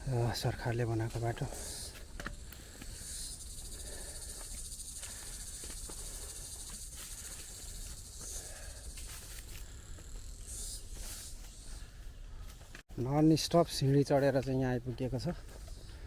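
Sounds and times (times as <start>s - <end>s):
insects buzzing: 0.0s - 12.8s, 13.8s - 16.0s.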